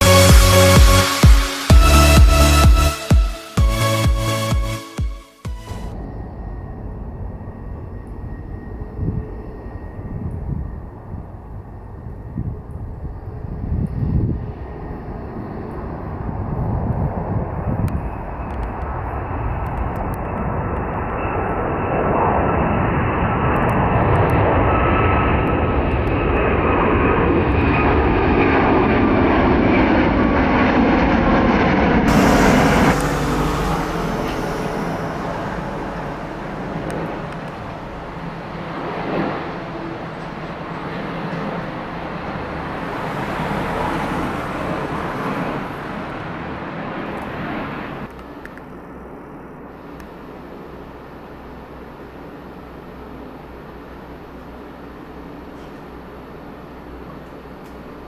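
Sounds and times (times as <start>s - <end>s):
jet airliner engines whining: 0.0s - 58.0s
distant jet rumble: 5.7s - 58.0s.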